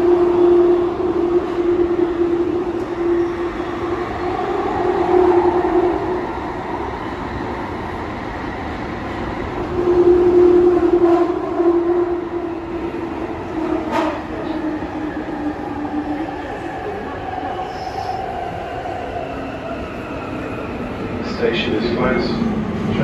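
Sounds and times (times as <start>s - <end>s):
train motors droning in tunnel: 0.0s - 23.0s.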